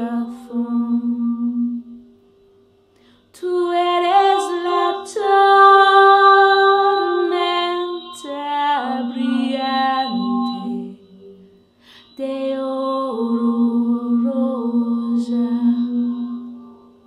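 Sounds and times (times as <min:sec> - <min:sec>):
woman singing wordless melody: 0:00.0 - 0:02.0, 0:03.3 - 0:17.0
steady synth tone: 0:00.0 - 0:17.0.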